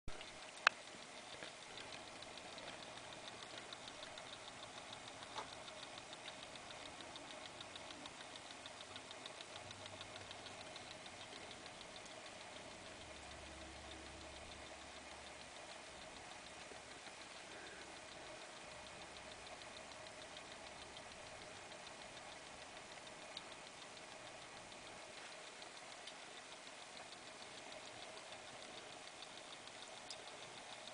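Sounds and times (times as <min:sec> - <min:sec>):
clock motor hum: 0:00.1 - 0:30.9
clock ticking: 0:00.1 - 0:30.9.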